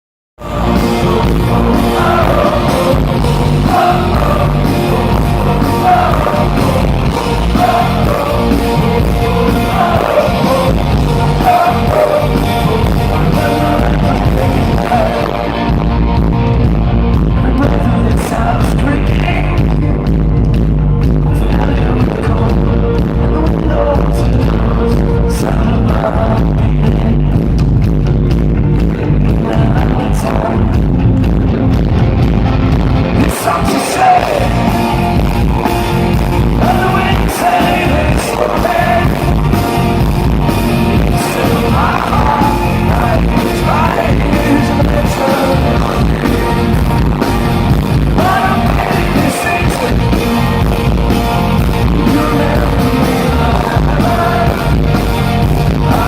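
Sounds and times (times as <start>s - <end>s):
man singing: 0.4s - 15.8s, 17.4s - 20.2s, 21.2s - 27.5s, 29.0s - 31.0s, 33.1s - 35.1s, 36.4s - 39.9s, 40.8s - 47.3s, 47.9s - 50.9s, 51.6s - 56.0s
live rock band playing: 0.4s - 56.0s.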